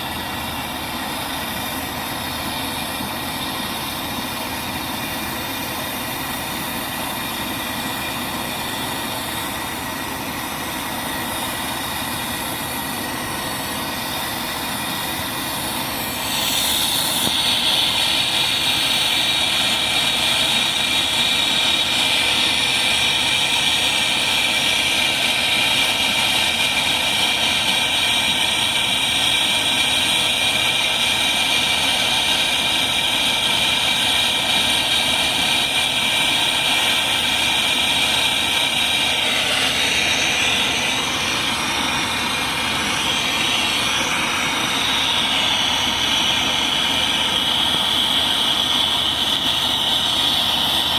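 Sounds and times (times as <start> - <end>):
brazing torch flame hissing: 0.0 - 50.9.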